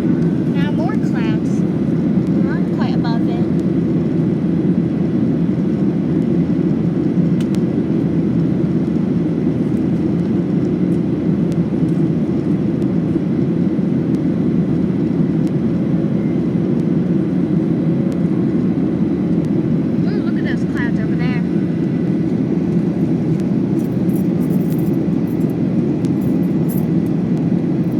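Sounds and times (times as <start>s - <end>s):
airliner cabin engine roar: 0.0s - 27.9s.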